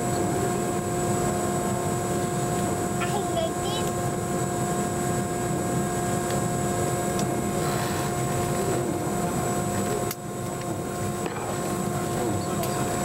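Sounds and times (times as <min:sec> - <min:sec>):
jet engine idling rumble: 0:00.0 - 0:13.0.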